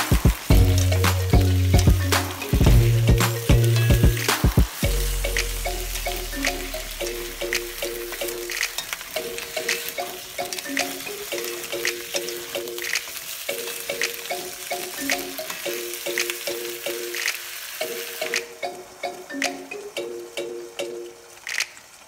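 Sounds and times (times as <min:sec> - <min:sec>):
potatoes sizzling in oil: 0:00.0 - 0:19.1
light background melody: 0:00.0 - 0:21.5.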